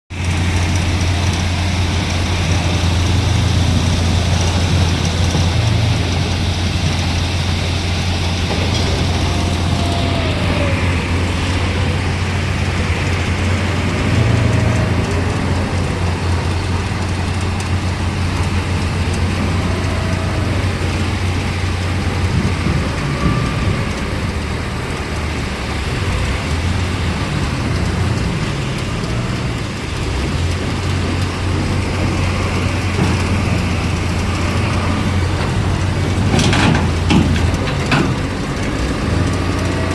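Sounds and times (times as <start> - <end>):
vehicle engine rumble: 0.0 - 39.9
road noise: 0.1 - 39.9.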